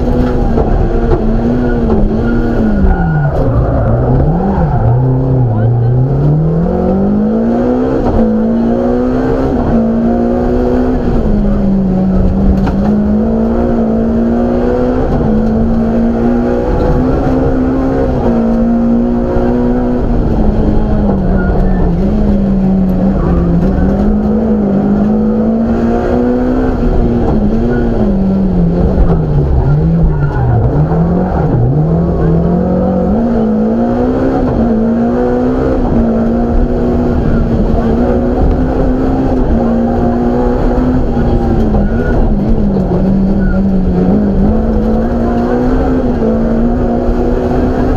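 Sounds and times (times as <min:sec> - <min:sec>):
rally car engine: 0:00.0 - 0:47.9.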